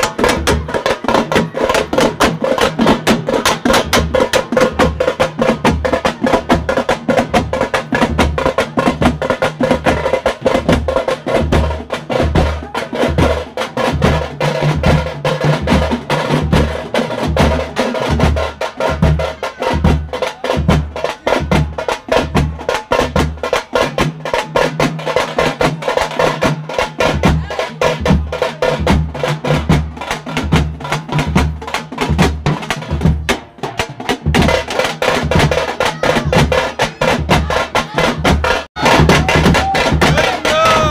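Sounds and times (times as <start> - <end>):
frame drums fast rhythm: 0.0 - 40.9.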